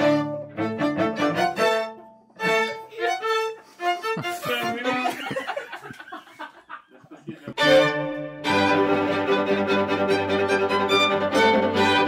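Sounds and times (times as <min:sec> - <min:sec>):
string quartet playing: 0:00.0 - 0:05.8, 0:07.3 - 0:12.0.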